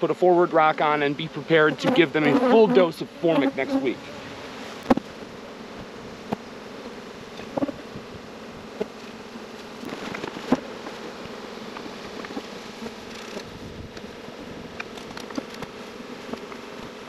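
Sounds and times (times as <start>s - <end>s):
bees buzzing: 0.1s - 17.0s.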